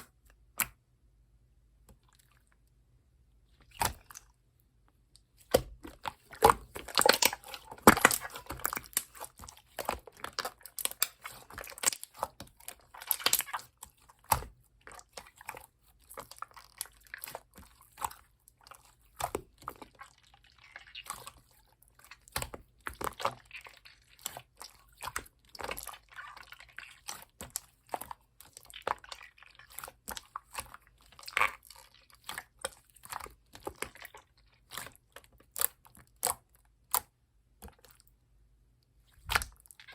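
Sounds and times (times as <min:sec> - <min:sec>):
slime squished by hand: 0:03.6 - 0:04.3, 0:05.4 - 0:38.0, 0:39.1 - 0:39.9.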